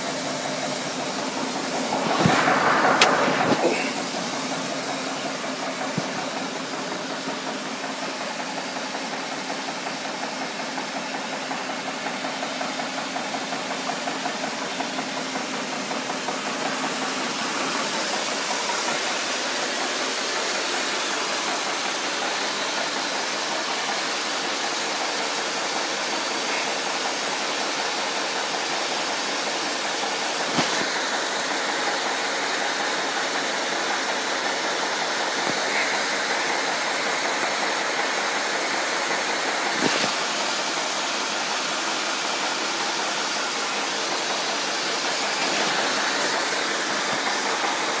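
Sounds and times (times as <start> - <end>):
steady hiss: 0.0 - 48.0.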